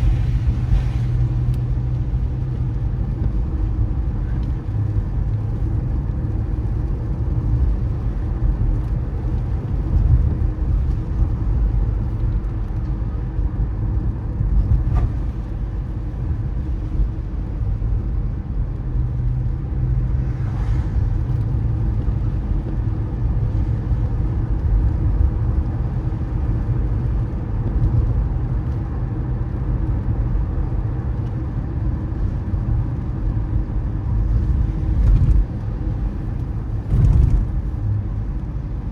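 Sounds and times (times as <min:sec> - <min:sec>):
tyres and engine rumbling: 0:00.0 - 0:38.9.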